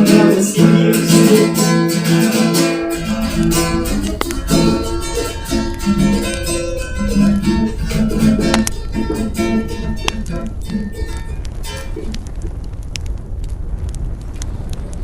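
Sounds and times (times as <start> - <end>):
acoustic guitar strumming: 0.0 - 12.3.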